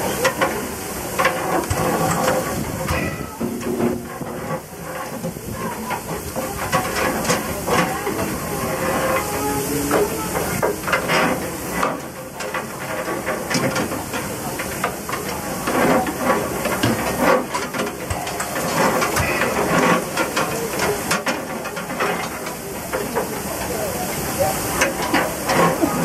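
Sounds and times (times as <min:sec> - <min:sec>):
falling ash clattering: 0:00.0 - 0:26.0
steam hissing from hot ash: 0:00.0 - 0:26.0.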